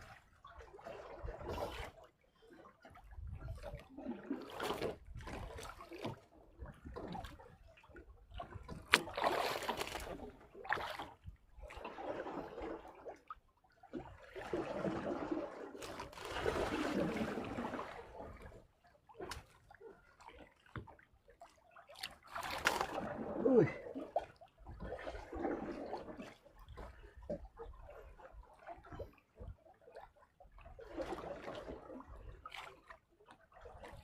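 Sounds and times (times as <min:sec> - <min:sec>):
water splashing around boat: 0:00.0 - 0:34.0.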